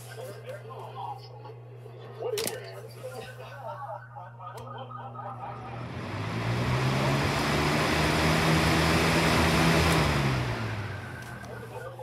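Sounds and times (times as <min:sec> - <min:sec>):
box fan running: 0:00.0 - 0:12.0.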